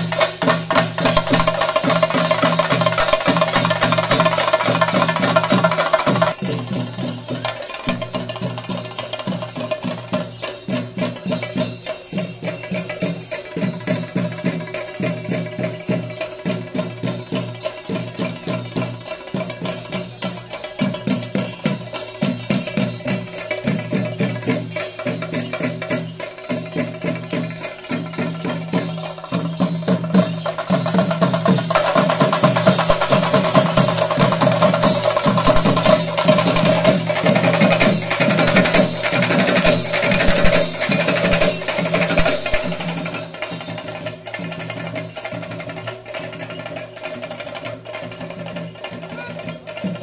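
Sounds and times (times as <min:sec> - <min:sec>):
clashing cymbals: 0:00.0 - 0:45.9
drums beaten in a fast roll: 0:00.0 - 0:50.0.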